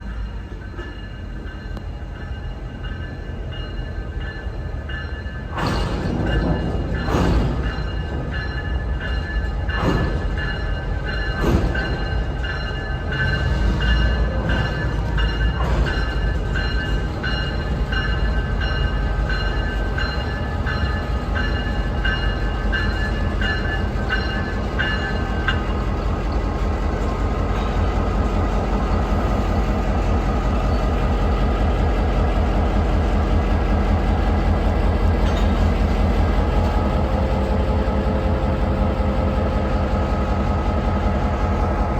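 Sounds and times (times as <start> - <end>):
locomotive bell ringing: 0.0 - 38.2
diesel locomotive rumbling: 0.0 - 41.9.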